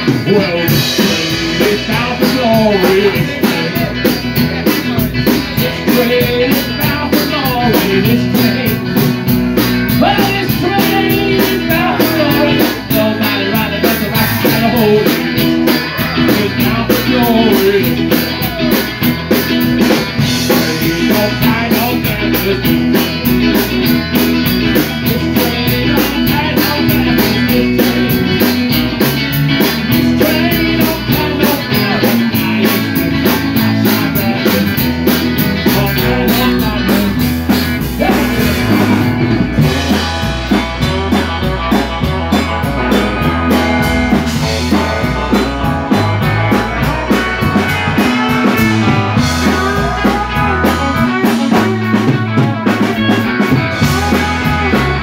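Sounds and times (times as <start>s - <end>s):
drum kit: 0.0s - 55.0s
electric guitars: 0.0s - 55.0s
person singing: 0.0s - 55.0s.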